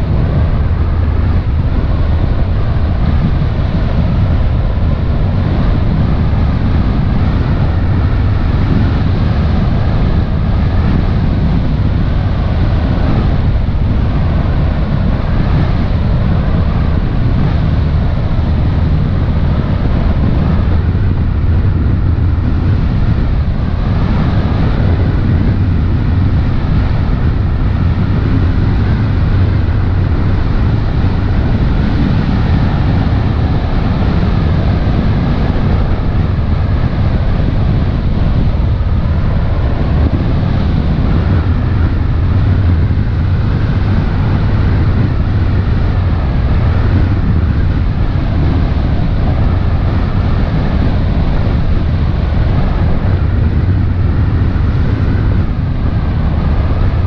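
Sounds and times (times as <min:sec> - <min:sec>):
boat engine rumble: 0:00.0 - 0:57.0
water rushing along hull: 0:00.0 - 0:57.0
wind buffeting microphone: 0:00.0 - 0:57.0.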